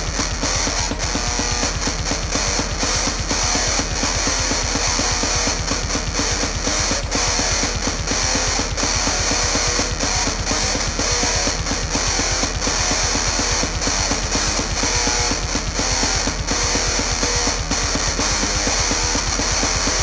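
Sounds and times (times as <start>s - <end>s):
loud guitar-driven music: 0.0s - 20.0s.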